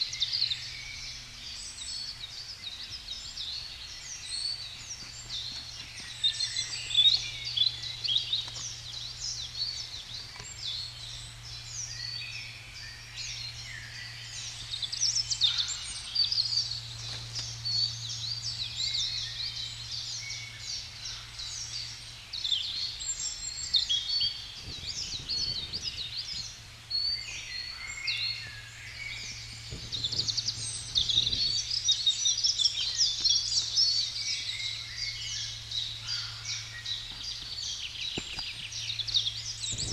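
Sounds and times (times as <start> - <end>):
songbirds chirping and trilling: 0.0 - 39.9
steady low hum: 0.0 - 39.9.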